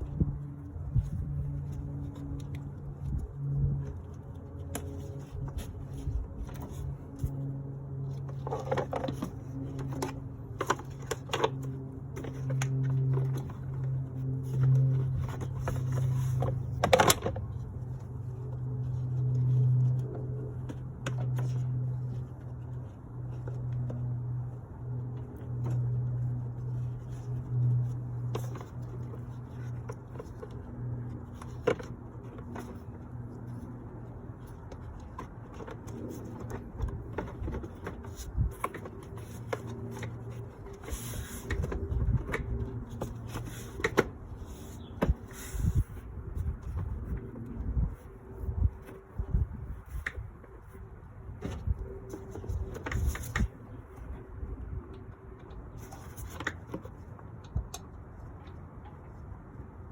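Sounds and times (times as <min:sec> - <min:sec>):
low machine hum: 0:00.0 - 0:59.9.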